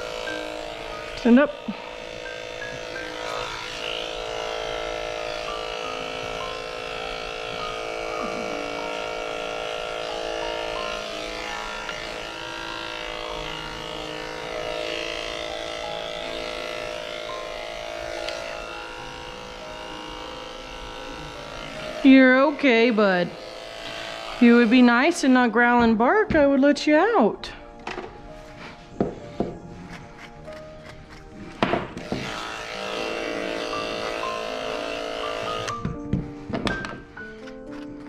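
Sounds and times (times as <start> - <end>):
electric dog clippers buzzing: 0.0 - 26.1, 30.0 - 38.0.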